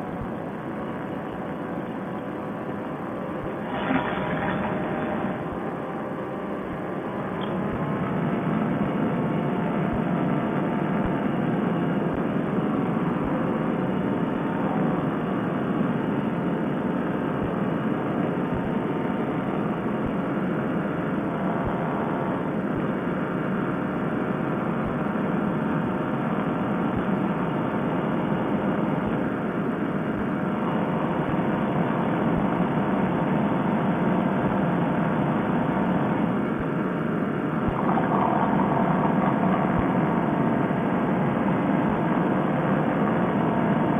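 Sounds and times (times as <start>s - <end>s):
paramotor engine and propeller drone: 0.0s - 43.9s.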